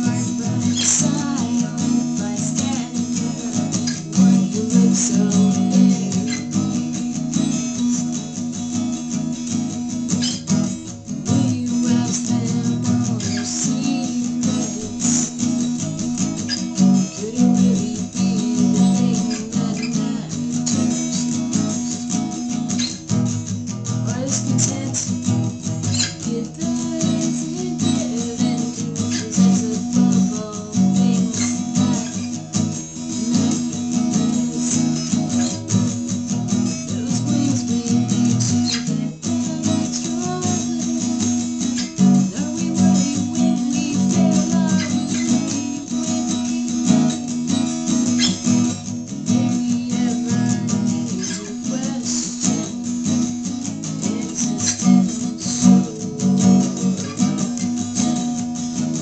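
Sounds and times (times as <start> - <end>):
person singing: 0.0 - 8.1, 10.2 - 59.0
acoustic guitar strumming: 0.0 - 59.0.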